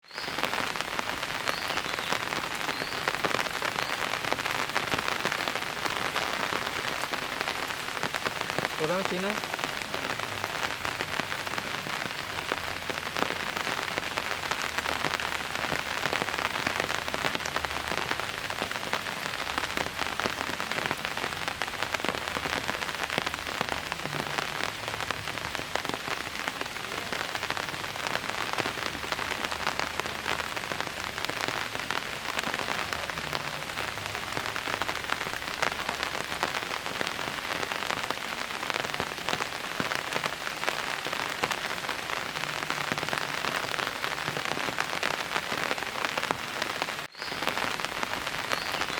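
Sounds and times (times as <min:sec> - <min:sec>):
steady rain patter: 0:00.0 - 0:48.9.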